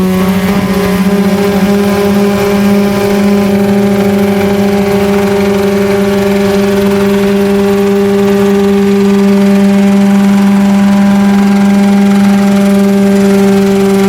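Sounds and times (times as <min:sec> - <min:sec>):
model helicopter drone: 0:00.0 - 0:14.0.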